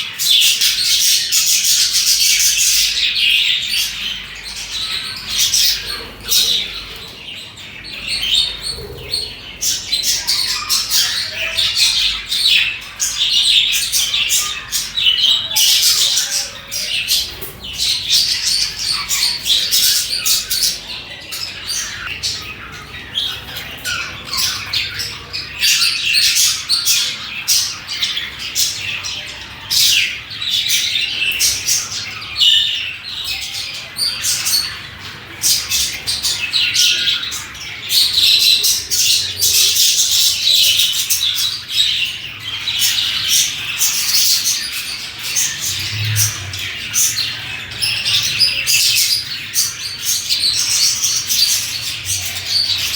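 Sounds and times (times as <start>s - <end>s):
budgerigars chirping: 0.0s - 52.9s.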